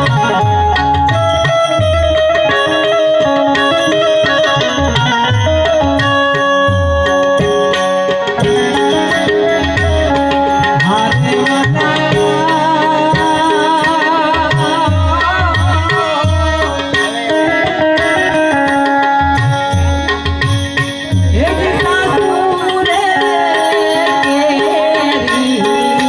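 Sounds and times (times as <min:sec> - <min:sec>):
harmonium melody: 0:00.0 - 0:26.0
tabla beat: 0:00.0 - 0:26.0.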